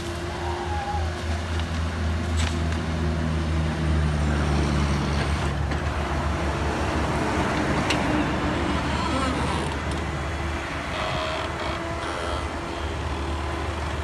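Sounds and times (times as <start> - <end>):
excavator diesel engine drone: 0.0 - 14.0.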